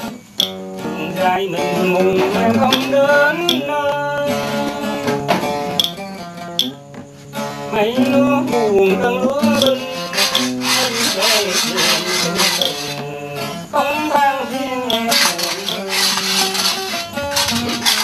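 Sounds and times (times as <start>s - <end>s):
plucked acoustic guitar: 0.0s - 18.0s
person singing: 0.8s - 5.4s, 7.7s - 18.0s.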